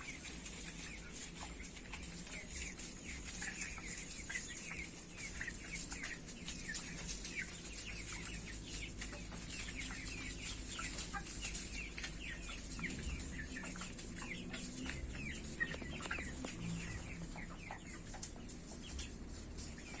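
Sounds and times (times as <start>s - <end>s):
chickens peeping and clucking: 0.0s - 20.0s.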